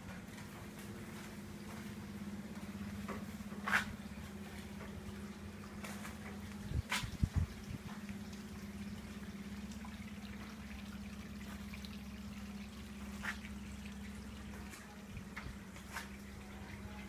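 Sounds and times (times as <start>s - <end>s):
steady low hum: 0.0s - 17.0s
water trickling in pond: 0.0s - 17.0s.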